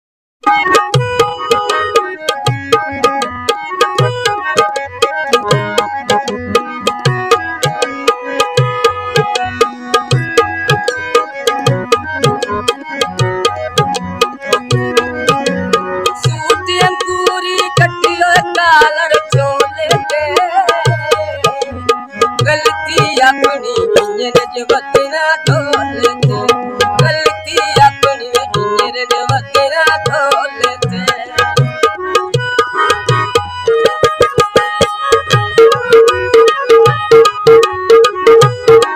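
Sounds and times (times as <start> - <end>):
harmonium chords and melody: 0.4 - 38.9
tabla rhythm: 0.4 - 38.9.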